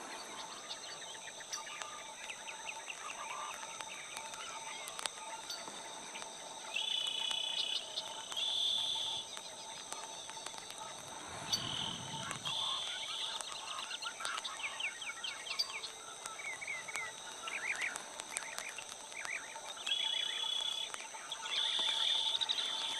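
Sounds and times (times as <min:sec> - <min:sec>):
insect trills: 0:00.0 - 0:22.9
insects high-pitched buzz: 0:00.0 - 0:22.9
small birds chirping: 0:00.0 - 0:22.9.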